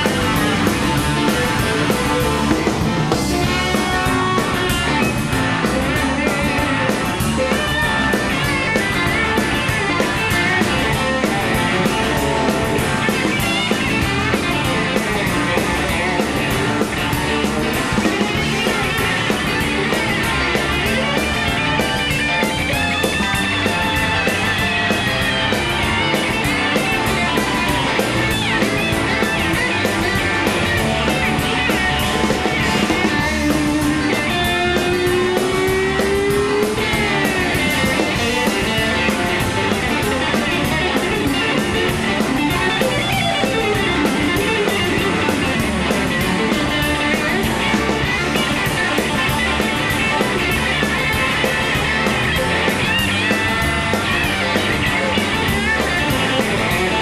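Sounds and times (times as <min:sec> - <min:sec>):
electric guitar lead lines: 0:00.0 - 0:57.0
rock band playing: 0:00.0 - 0:57.0.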